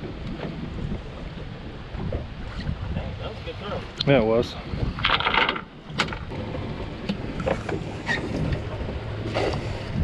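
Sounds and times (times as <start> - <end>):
outboard motor rumble: 0.0 - 10.0
wind: 0.0 - 10.0.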